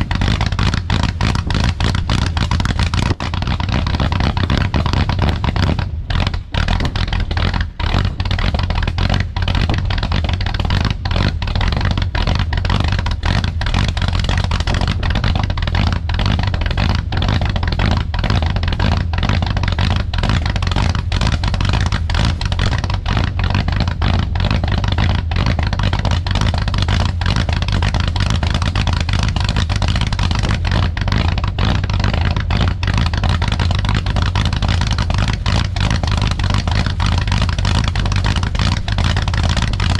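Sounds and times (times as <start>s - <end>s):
car engine idling cold: 0.0s - 39.9s.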